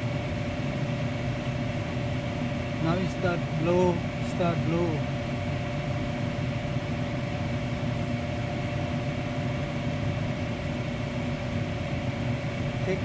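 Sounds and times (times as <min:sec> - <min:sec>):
furnace fan motor humming: 0:00.0 - 0:13.0.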